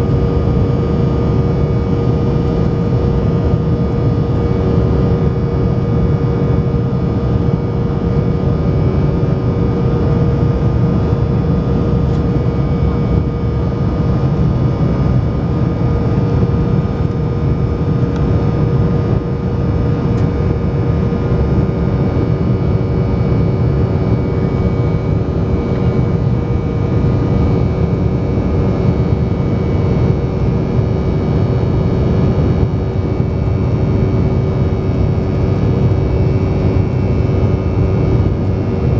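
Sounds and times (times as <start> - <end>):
airplane cabin roar: 0.0 - 38.9
jet engines rumbling: 0.0 - 38.9.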